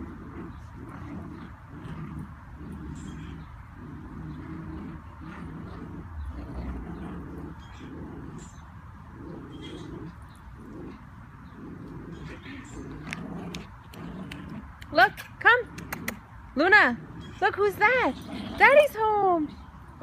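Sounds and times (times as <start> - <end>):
dog growling: 0.0 - 14.9, 15.6 - 16.2, 16.8 - 19.0.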